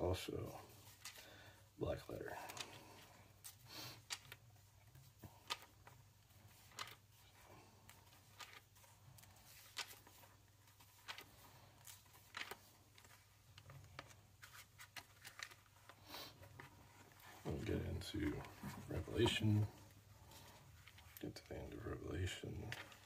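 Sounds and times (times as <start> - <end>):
thin pages turning: 0.6 - 1.3, 2.3 - 22.0, 22.6 - 23.0.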